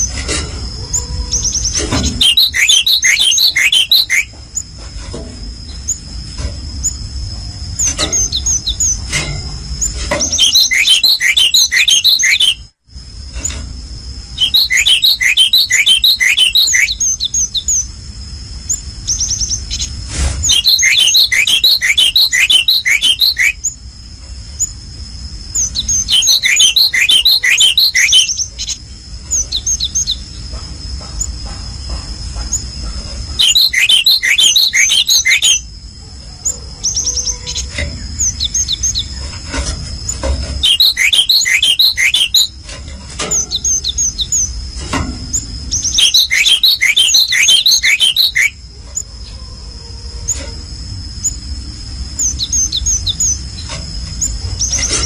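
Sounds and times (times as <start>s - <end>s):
songbird chirping: 0.9s - 4.7s, 7.8s - 12.7s, 14.3s - 18.0s, 18.6s - 24.8s, 25.4s - 42.6s, 43.3s - 50.5s, 51.2s - 55.0s.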